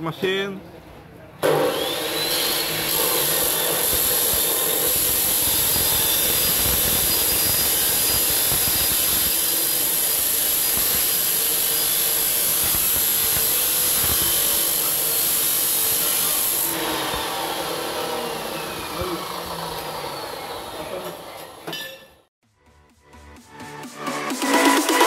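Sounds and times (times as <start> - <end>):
cut-off saw motor whine: 1.4 - 22.2
abrasive wheel grinding steel tube: 2.0 - 22.3.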